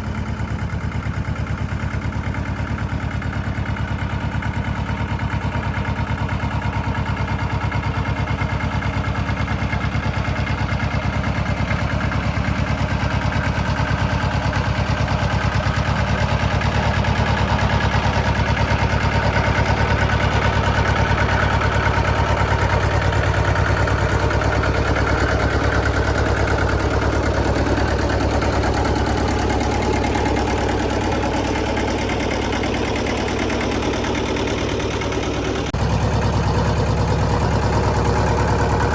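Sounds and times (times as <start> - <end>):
heavy vehicle engine running: 0.0 - 38.9.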